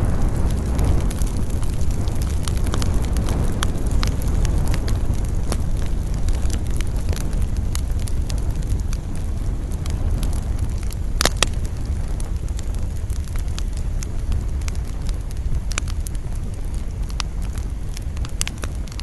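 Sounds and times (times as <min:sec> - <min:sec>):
campfire crackling: 0:00.0 - 0:19.0
low rumble of wind: 0:00.0 - 0:19.0.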